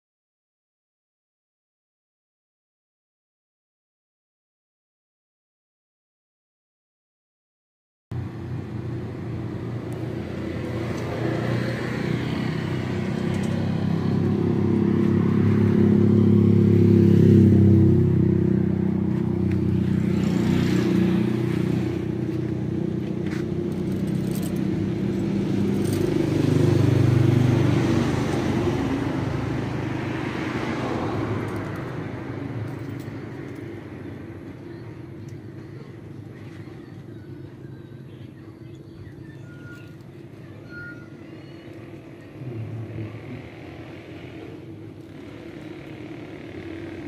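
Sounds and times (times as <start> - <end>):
vehicle engine humming: 8.2 - 47.0.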